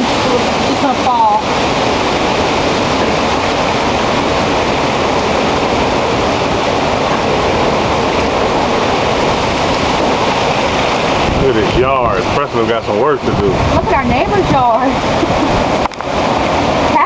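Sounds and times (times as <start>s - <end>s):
strong wind through trees: 0.0s - 17.0s.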